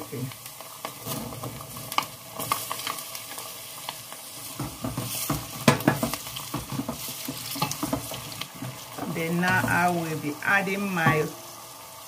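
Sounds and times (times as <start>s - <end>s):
vegetables sizzling in oil: 0.0s - 12.0s
wooden spoon stirring in a pot: 0.4s - 11.4s.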